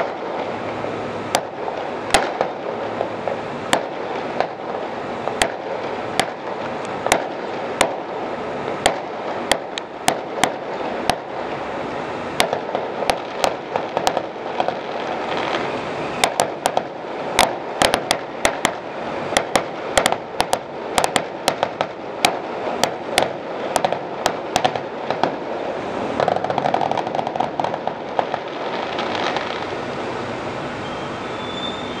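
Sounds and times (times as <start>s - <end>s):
fireworks bangs and pops: 0.0s - 29.9s
steady noisy background: 0.0s - 32.0s.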